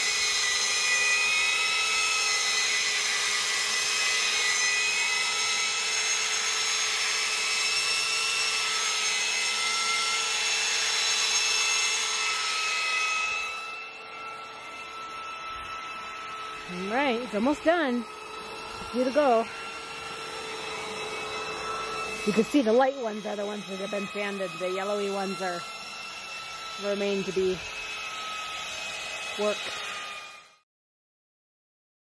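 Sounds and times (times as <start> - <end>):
belt sander on wood: 0.0 - 30.6.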